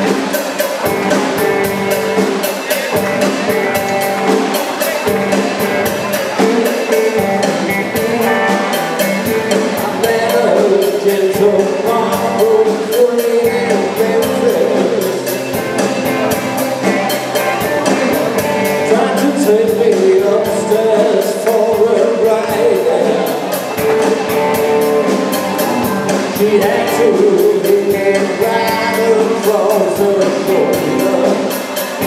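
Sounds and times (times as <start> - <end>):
drum kit beat: 0.0 - 32.0
electric guitars: 0.0 - 32.0
person singing: 2.8 - 32.0.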